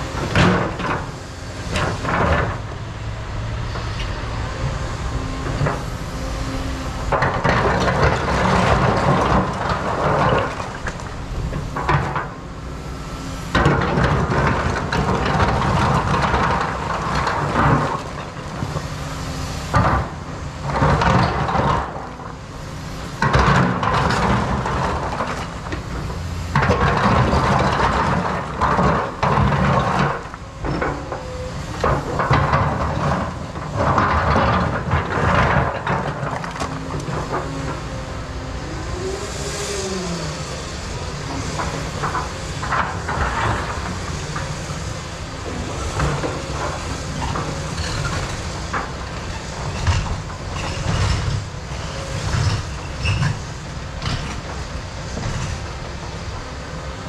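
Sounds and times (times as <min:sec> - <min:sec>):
excavator bucket working on rock: 0:00.0 - 0:57.0
excavator diesel engine humming: 0:00.0 - 0:57.0.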